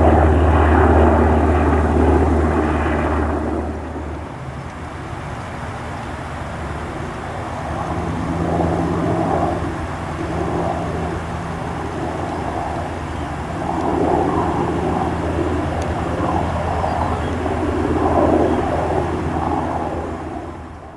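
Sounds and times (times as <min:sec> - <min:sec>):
aircraft engine drone: 0:00.0 - 0:20.9.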